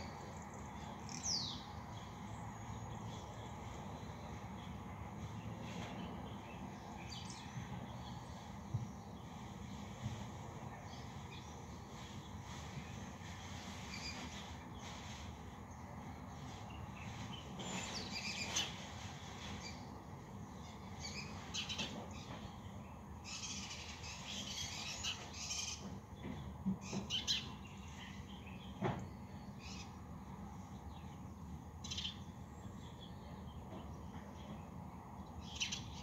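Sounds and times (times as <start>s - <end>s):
birds chirping and twittering: 0.0s - 36.0s
low background noise: 0.0s - 36.0s.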